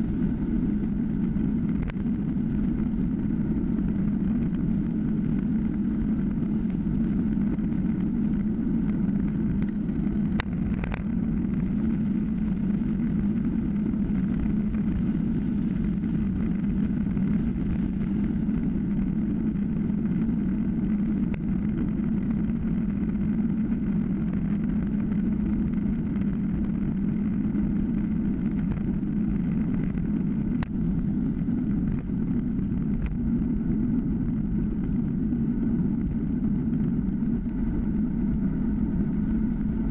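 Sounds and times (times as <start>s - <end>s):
wind rumble: 0.0s - 39.9s.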